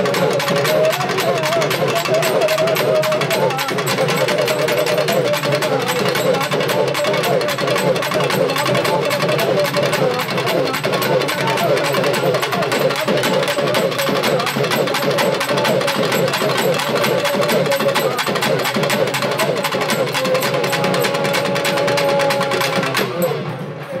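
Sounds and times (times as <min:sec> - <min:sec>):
fast barrel drumming: 0:00.0 - 0:23.4.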